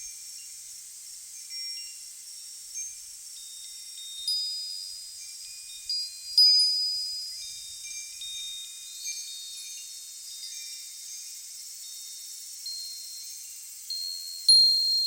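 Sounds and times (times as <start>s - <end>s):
wind chimes ringing: 1.4s - 15.0s.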